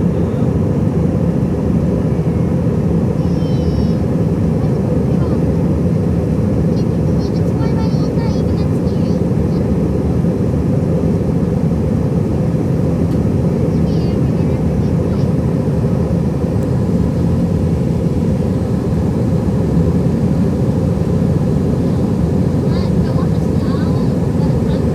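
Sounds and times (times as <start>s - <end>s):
airflow over fuselage: 0.0s - 24.9s
jet engines roaring: 0.0s - 24.9s.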